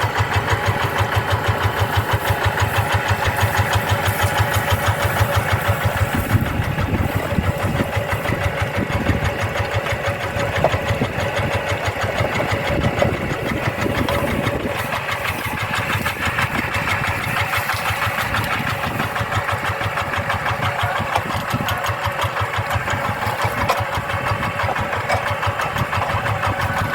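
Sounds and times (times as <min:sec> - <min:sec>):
diesel engine chugging: 0:00.0 - 0:26.9.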